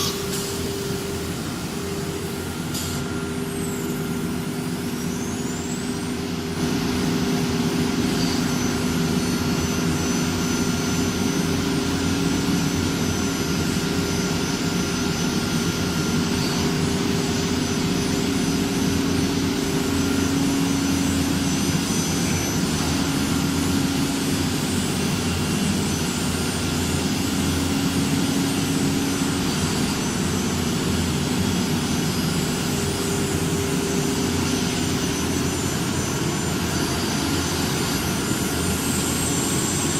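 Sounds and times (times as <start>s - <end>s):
machine drone with hum: 0.0s - 39.9s.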